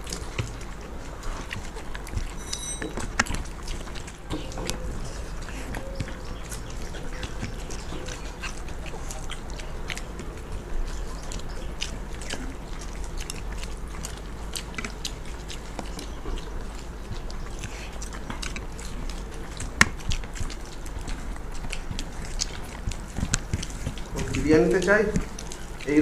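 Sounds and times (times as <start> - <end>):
people chewing and biting: 0.0 - 26.0.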